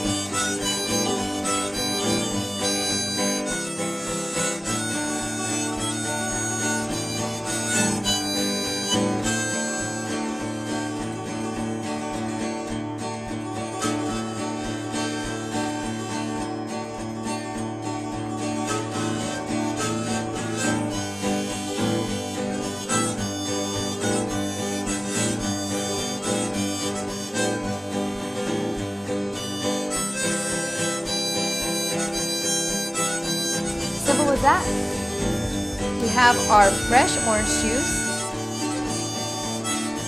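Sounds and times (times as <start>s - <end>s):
acoustic guitar: 0.0s - 40.0s
harmonica playing a tune: 0.0s - 40.0s.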